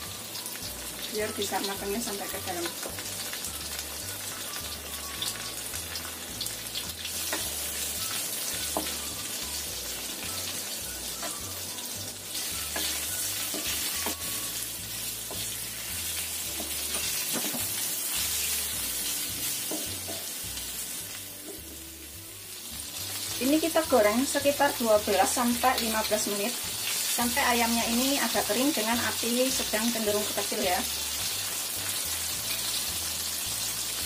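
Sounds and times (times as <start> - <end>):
chicken sizzling in oil: 0.0 - 34.0.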